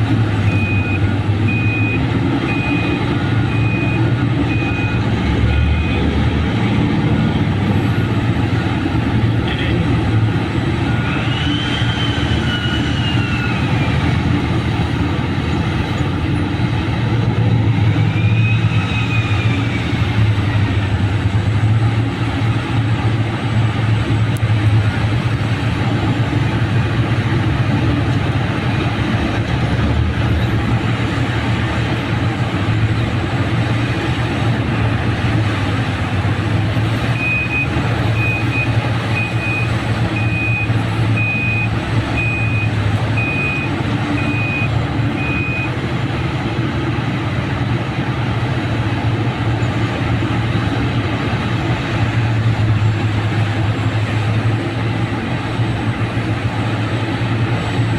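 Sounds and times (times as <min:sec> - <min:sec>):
heavy diesel machinery drone: 0:00.0 - 0:57.9.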